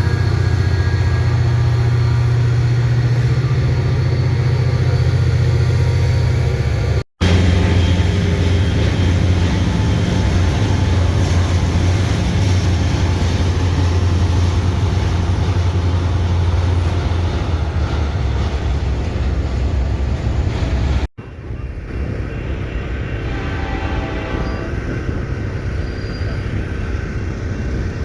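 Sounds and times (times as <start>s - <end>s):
train passing close by: 0.0s - 28.0s
wheel and rail noise: 0.0s - 28.0s.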